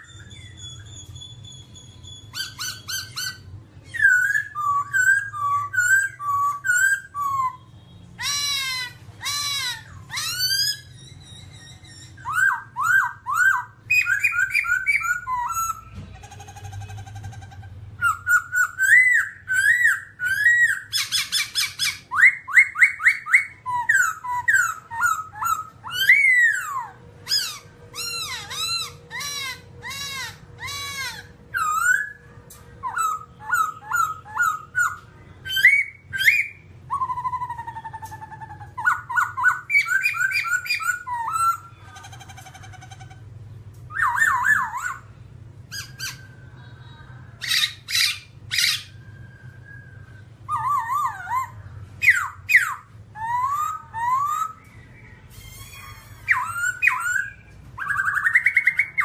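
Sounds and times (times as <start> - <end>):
bird singing whistled phrases: 0.0 - 16.0, 18.0 - 32.2, 32.8 - 41.8, 43.9 - 46.4, 47.4 - 59.0.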